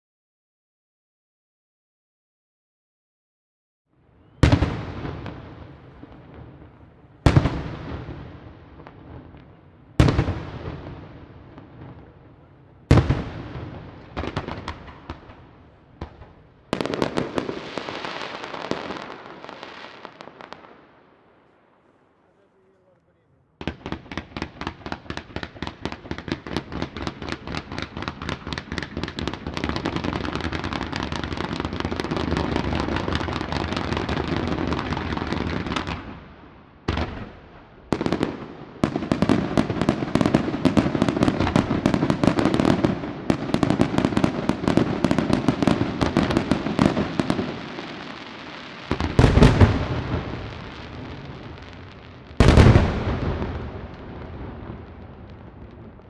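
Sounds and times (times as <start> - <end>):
fireworks crackling barrage: 4.0 - 56.0
firework bangs: 4.2 - 21.2, 23.6 - 36.2, 36.8 - 56.0.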